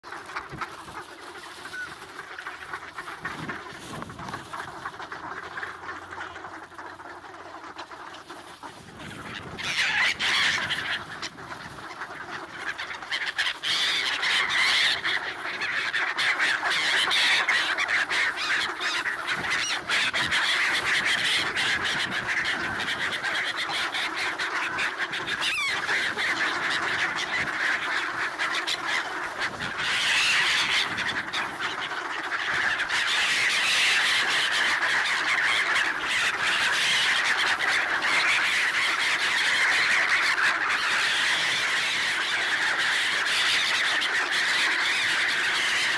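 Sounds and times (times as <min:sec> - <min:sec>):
ducks calling: 0:00.0 - 0:45.9
gulls calling: 0:00.0 - 0:45.9
swans calling: 0:00.0 - 0:45.9.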